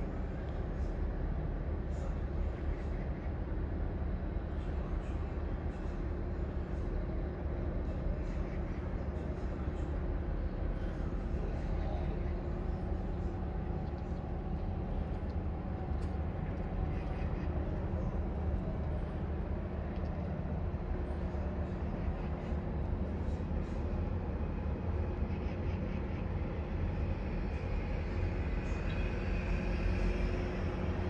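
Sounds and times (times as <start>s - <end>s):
faint hum: 0.0s - 31.0s
low background rumble: 0.0s - 31.0s.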